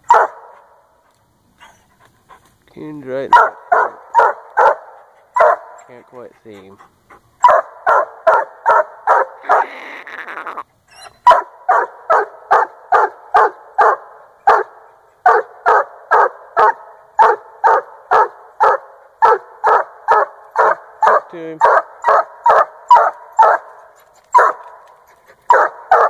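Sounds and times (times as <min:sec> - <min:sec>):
dog barking rapidly: 0:00.0 - 0:00.7, 0:03.3 - 0:06.8, 0:07.4 - 0:10.6, 0:11.2 - 0:24.8, 0:25.5 - 0:26.0.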